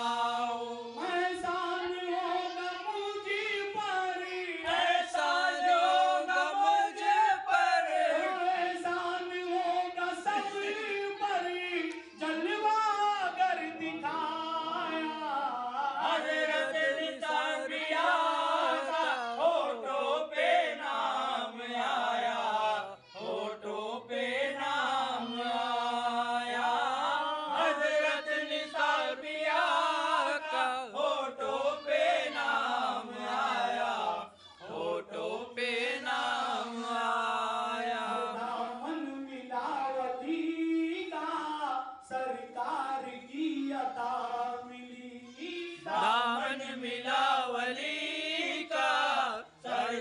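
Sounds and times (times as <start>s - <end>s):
man singing into a microphone: 0.0s - 50.0s.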